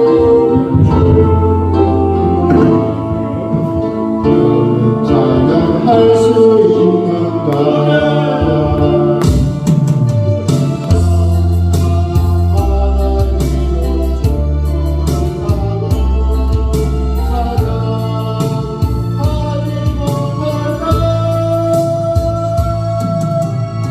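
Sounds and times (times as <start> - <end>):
electronic organ: 0.0 - 23.9
person singing gospel song: 0.0 - 23.9.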